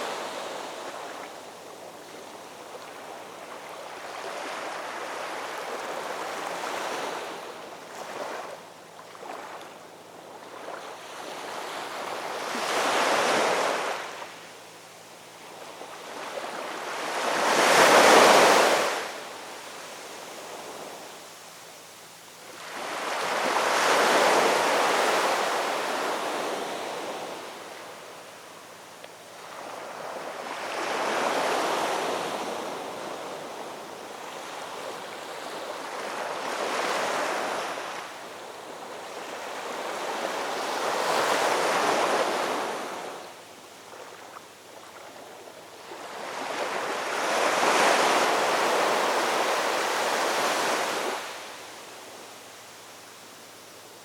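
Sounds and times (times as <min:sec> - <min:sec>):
ocean waves breaking on shore: 0:00.0 - 0:14.5, 0:15.4 - 0:21.3, 0:22.4 - 0:52.4.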